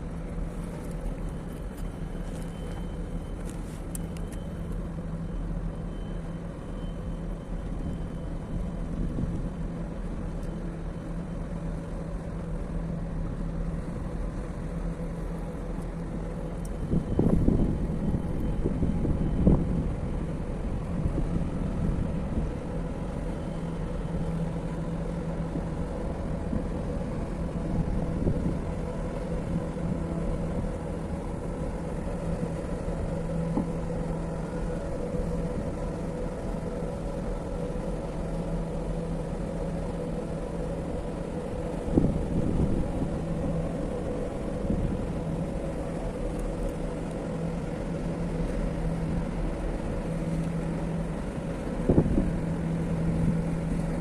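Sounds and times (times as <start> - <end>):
ship engine rumble and hum: 0.0 - 54.0.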